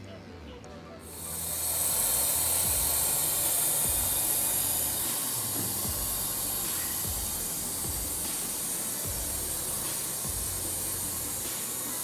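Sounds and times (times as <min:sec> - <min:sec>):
water running in washing machine: 0:01.1 - 0:12.0.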